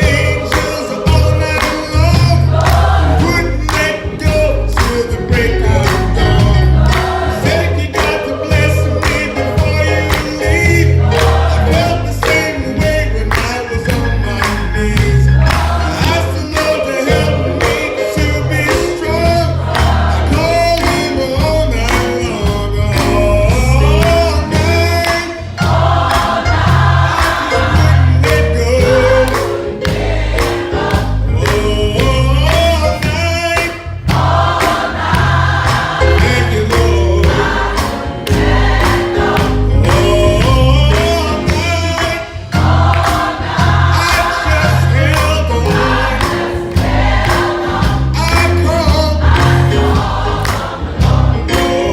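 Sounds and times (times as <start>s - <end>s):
choir singing gospel song: 0.0s - 51.9s
steady bass accompaniment: 0.0s - 51.9s.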